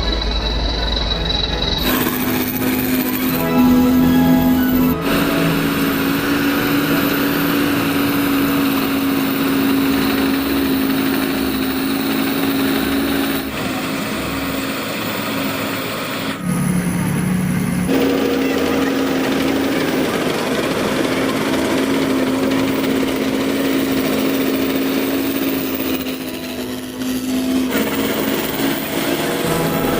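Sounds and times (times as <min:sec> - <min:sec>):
combine harvester engine running: 0:00.0 - 0:29.9.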